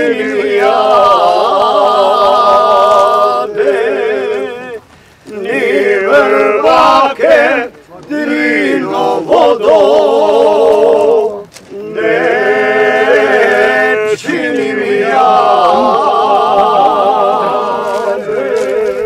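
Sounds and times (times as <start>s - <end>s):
men singing slow song: 0.0s - 19.0s.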